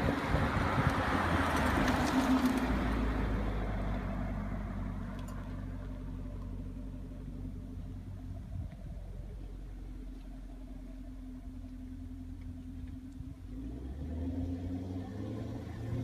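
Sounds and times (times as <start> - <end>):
car engine idling: 0.0 - 14.6.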